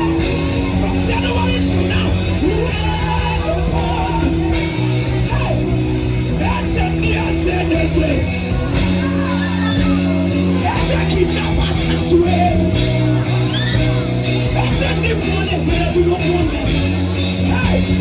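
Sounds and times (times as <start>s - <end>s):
band holding sustained chords: 0.0s - 18.0s
people singing: 0.0s - 18.0s.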